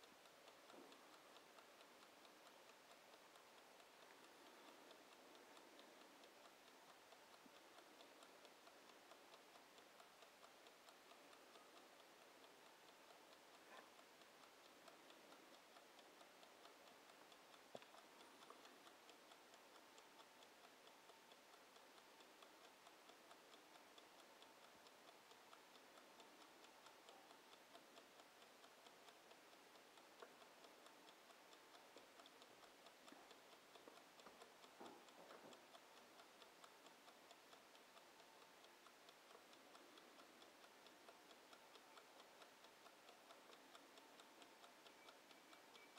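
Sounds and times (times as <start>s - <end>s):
kitchen timer ticking: 0.0s - 45.9s.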